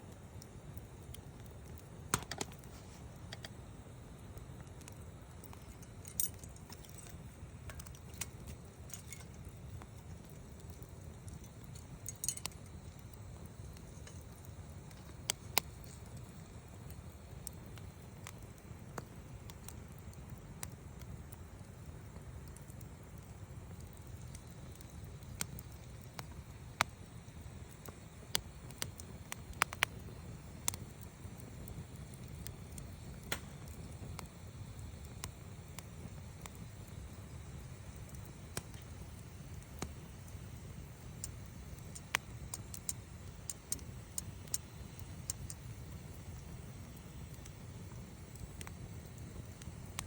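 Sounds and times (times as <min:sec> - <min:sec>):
low fire rumble: 0:00.0 - 0:50.0
wood fire crackling and popping: 0:00.0 - 0:50.0.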